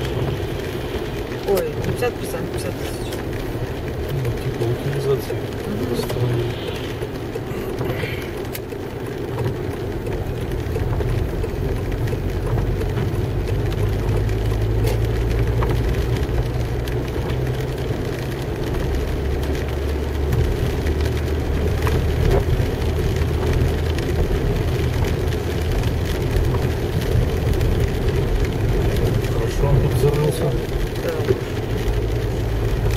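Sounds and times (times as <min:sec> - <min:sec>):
car engine: 0:00.0 - 0:32.9
tyres on wet road: 0:00.0 - 0:32.9.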